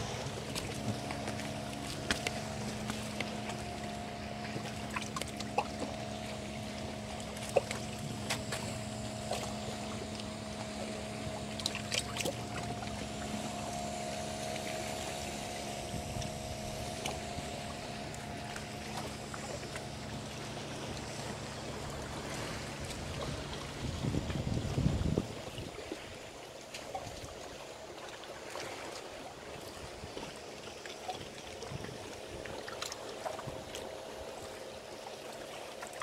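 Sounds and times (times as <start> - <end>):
boat motor humming: 0.0 - 36.0
water lapping: 0.0 - 36.0.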